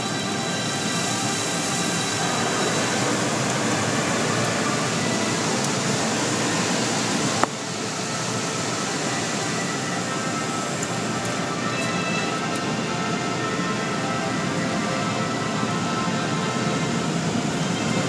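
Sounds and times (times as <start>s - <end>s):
car wash water spray rushing: 0.0s - 18.0s.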